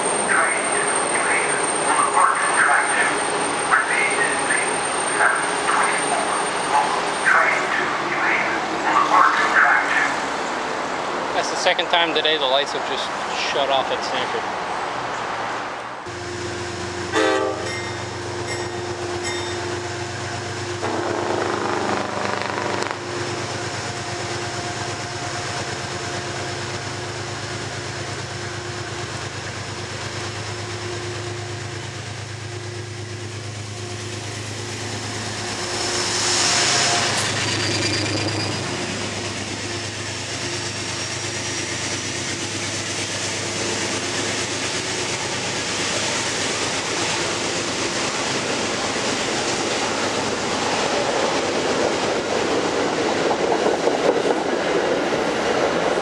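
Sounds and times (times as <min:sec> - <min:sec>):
diesel locomotive engine running: 0:00.0 - 0:14.4, 0:16.0 - 0:56.0
train coaches rolling past: 0:00.0 - 0:56.0.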